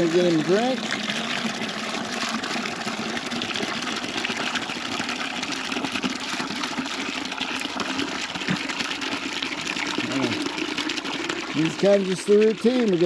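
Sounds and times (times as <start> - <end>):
water running into a bucket: 0.0 - 13.0.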